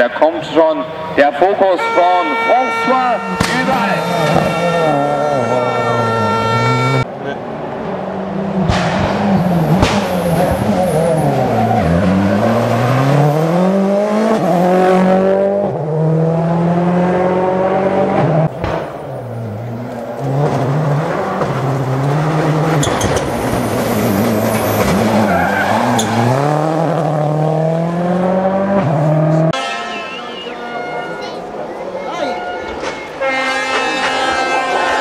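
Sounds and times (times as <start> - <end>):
rally car engines revving past: 1.8 - 31.7.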